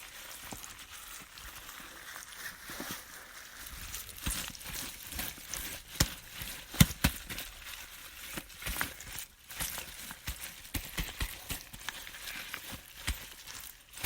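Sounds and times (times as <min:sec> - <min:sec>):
wet sticky rustling of cabbage: 0:00.0 - 0:14.0.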